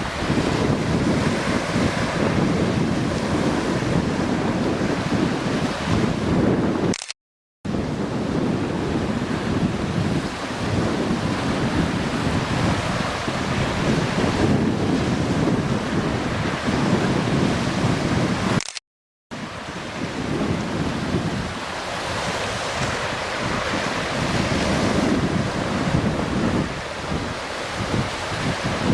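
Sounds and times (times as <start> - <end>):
waves on shore: 0.0 - 7.0, 7.7 - 18.6, 19.3 - 28.9
wind buffeting microphone: 0.0 - 7.0, 7.7 - 18.6, 19.3 - 28.9.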